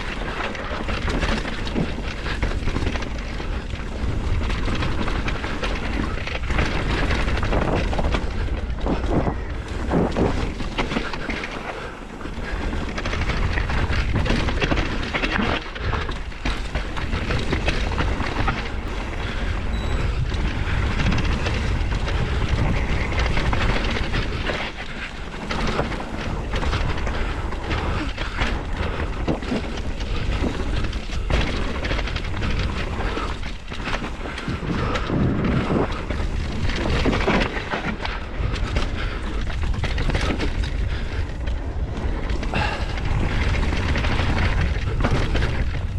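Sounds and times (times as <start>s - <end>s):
bike knocks and rattles: 0.0s - 45.9s
bike tyre noise: 0.0s - 45.9s
wind rumbling on microphone: 0.0s - 45.9s.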